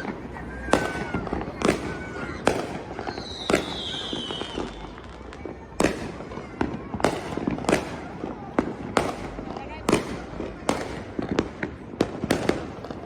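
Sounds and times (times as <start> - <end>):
firework bangs: 0.0 - 13.0
fireworks crackling: 0.0 - 13.0
whistling firework: 0.0 - 13.0.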